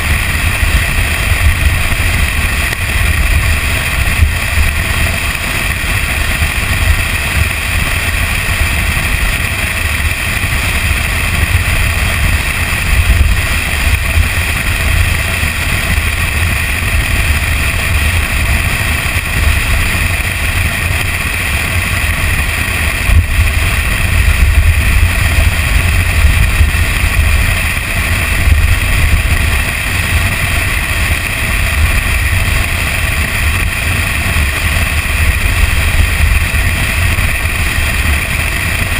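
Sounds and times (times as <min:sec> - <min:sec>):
truck driving on dirt trail: 0:00.0 - 0:38.9.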